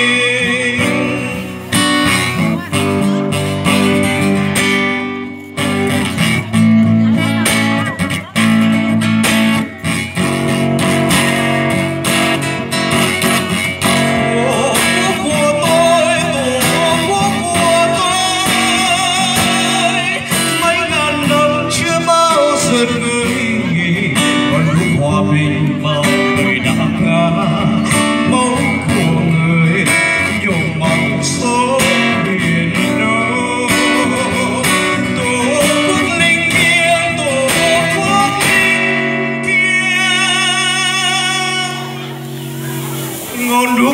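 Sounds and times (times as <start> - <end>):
acoustic guitar strumming: 0.0 - 43.9
man singing into a microphone: 0.0 - 43.9.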